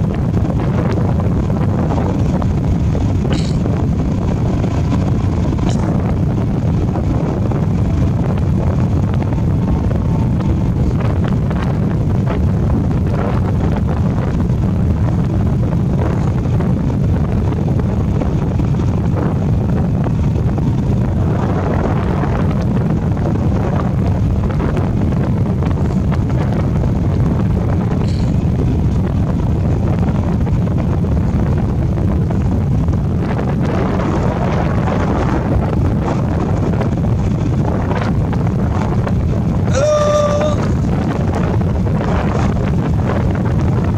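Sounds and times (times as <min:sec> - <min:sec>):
motorbike engine rumble: 0:00.0 - 0:43.9
road noise: 0:00.0 - 0:43.9
wind buffeting microphone: 0:00.0 - 0:43.9.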